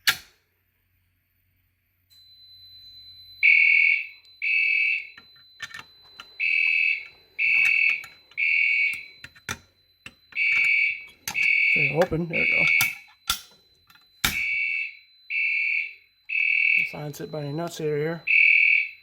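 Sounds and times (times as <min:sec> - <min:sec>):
steady high-pitched tone: 0:02.0 - 0:19.0
fire alarm horn blasts: 0:02.8 - 0:19.0.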